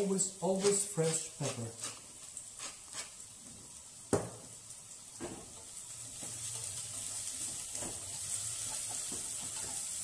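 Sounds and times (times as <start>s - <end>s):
spatula stirring in a pot: 0.0s - 3.6s, 5.2s - 10.0s
onion and garlic sizzling in oil: 0.0s - 10.0s.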